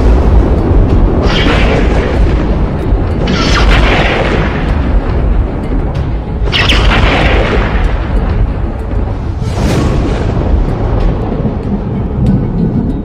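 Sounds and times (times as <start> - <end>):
deep continuous rumble: 0.0 - 13.0
dramatic background music: 0.0 - 13.0
rushing noise: 0.0 - 13.0.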